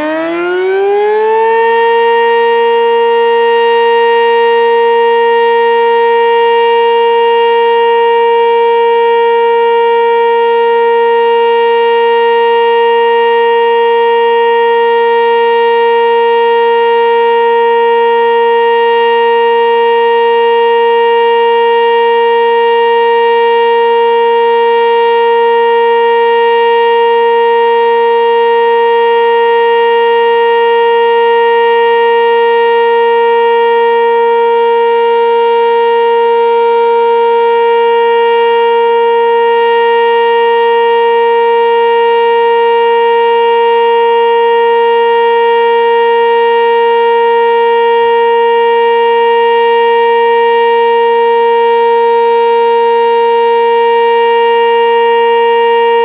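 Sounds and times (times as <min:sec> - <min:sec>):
dual-tone warning siren: 0:00.0 - 0:56.0.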